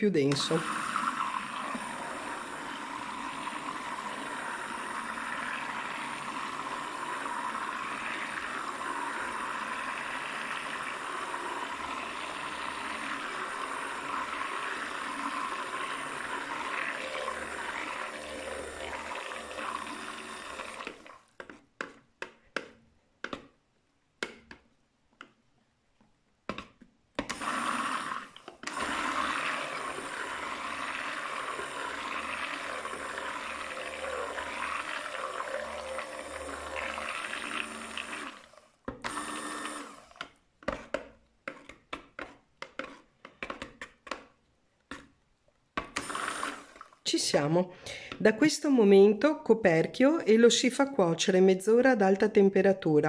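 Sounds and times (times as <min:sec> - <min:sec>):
stick blender whirring: 0:00.0 - 0:23.4, 0:27.2 - 0:44.2, 0:45.8 - 0:48.5.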